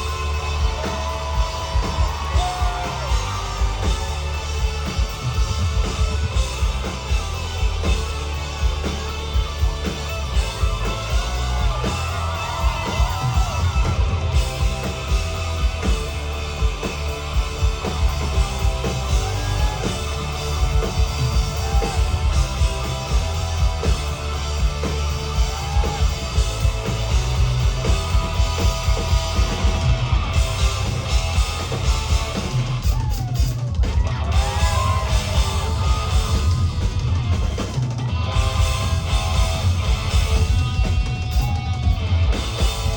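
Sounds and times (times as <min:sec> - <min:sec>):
drum kit beat: 0:00.0 - 0:42.9
guitar: 0:00.0 - 0:42.9
live rock band playing: 0:00.0 - 0:42.9.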